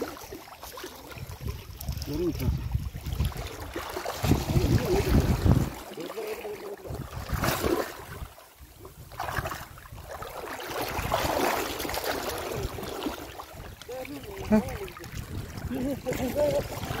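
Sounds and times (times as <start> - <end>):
water splashing and sloshing: 0.0 - 17.0
wind buffeting microphone: 1.1 - 5.9, 6.8 - 10.2, 10.8 - 17.0.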